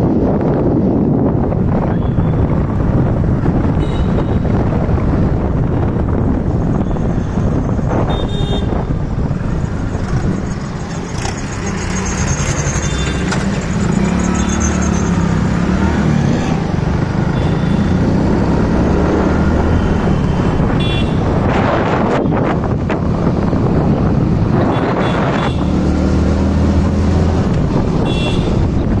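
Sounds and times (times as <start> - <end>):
wind buffeting microphone: 0.0 - 14.2, 15.1 - 29.0
vehicle engine and road noise: 0.0 - 29.0.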